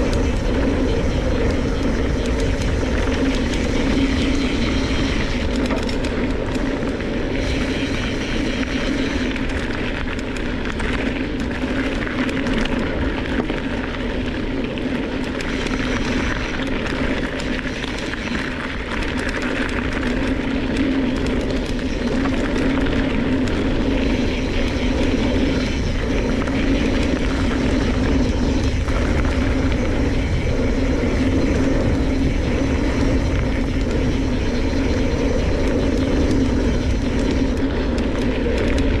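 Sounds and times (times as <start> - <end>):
bike rattling: 0.0 - 39.0
bike tyres rolling on gravel: 0.0 - 39.0.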